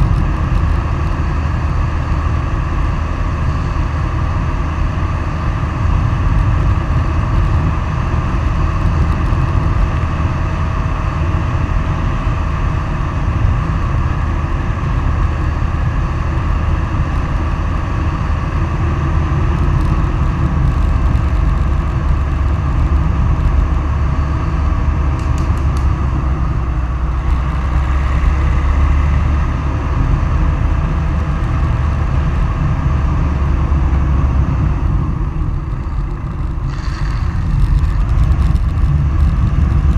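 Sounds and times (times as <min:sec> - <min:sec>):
wheels rolling on asphalt: 0:00.0 - 0:39.9
wind rushing over microphone: 0:00.0 - 0:39.9.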